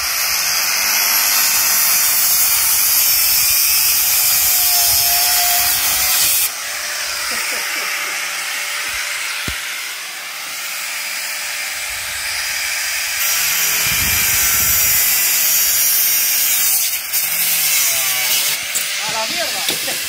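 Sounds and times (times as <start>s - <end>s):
angle grinder cutting metal: 0.0s - 20.0s.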